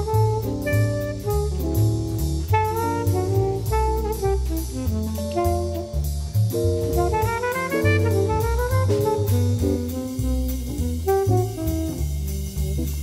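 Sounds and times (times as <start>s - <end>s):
bass: 0.0s - 13.0s
drum kit beat: 0.0s - 13.0s
jazz horn melody: 0.0s - 13.0s.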